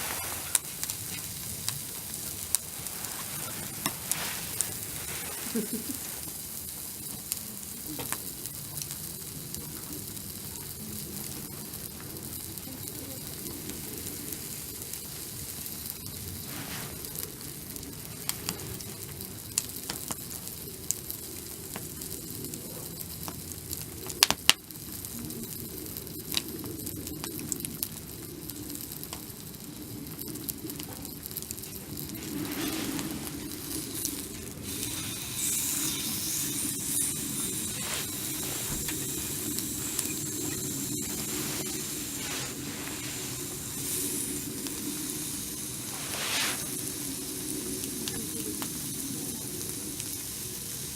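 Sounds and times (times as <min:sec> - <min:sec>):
food sizzling on a grill: 0:00.0 - 0:50.9.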